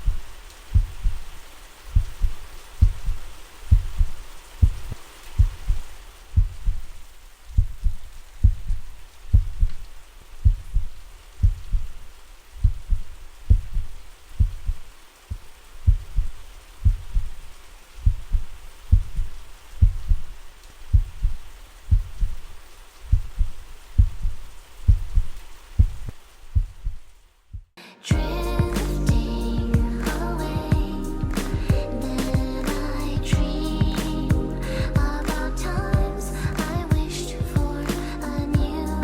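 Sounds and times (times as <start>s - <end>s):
heartbeat: 0.0s - 9.8s, 10.4s - 12.0s, 12.6s - 17.4s, 18.0s - 20.3s, 20.9s - 22.4s, 23.1s - 39.0s
rain patter: 0.0s - 39.0s.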